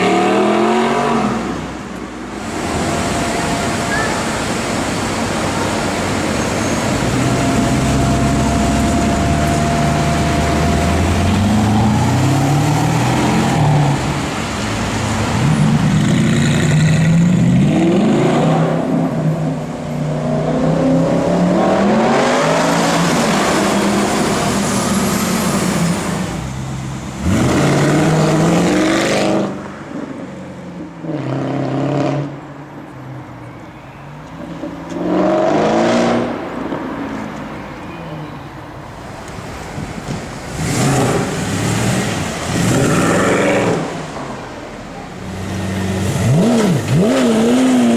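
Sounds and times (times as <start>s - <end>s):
car engines revving and accelerating: 0.0s - 33.5s, 34.2s - 47.9s.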